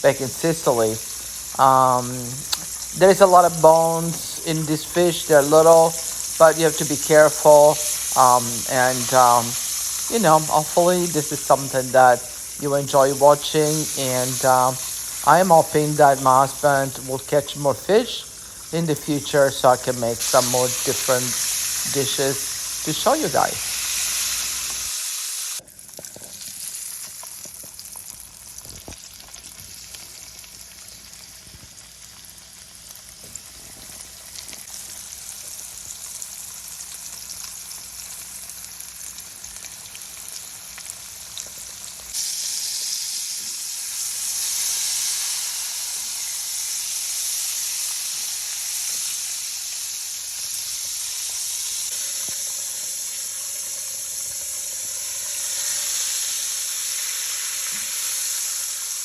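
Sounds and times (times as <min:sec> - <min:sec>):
fish sizzling in hot oil: 0:00.0 - 0:59.0.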